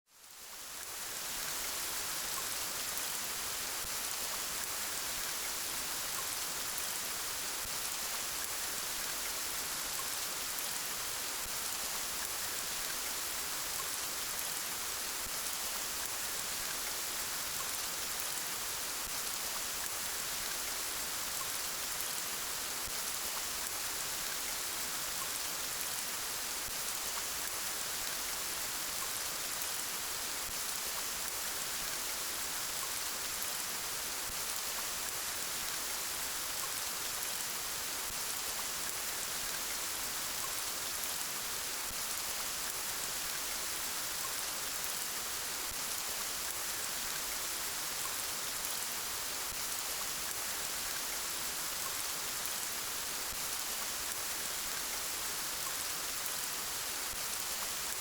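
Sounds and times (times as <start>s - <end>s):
steady rain falling: 0.1s - 58.0s.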